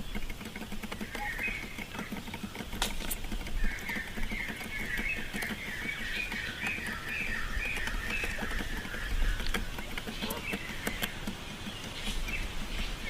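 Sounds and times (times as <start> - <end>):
francolin calling: 0.0 - 13.0
sharp clicks: 0.0 - 13.0.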